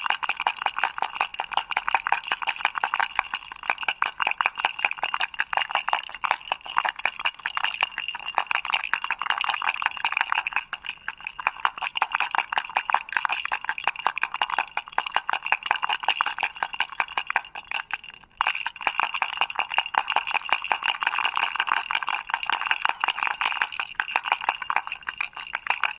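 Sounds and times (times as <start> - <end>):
toy rattle shaken: 0.0 - 25.9.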